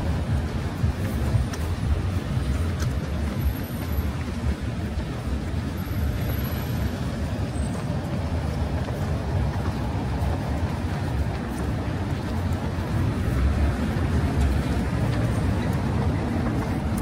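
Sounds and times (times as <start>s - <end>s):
rumble of passing traffic: 0.0s - 17.0s.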